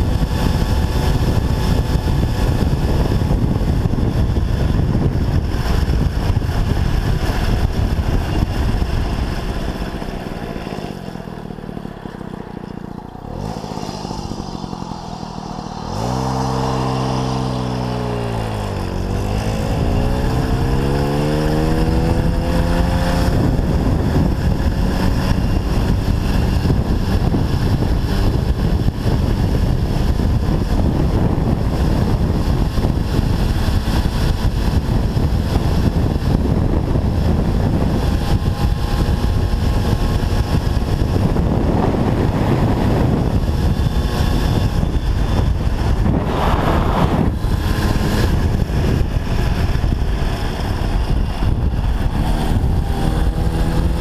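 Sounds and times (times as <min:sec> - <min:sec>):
wind rush on microphone: 0:00.0 - 0:11.8, 0:12.9 - 0:54.0
moped engine running: 0:00.0 - 0:54.0.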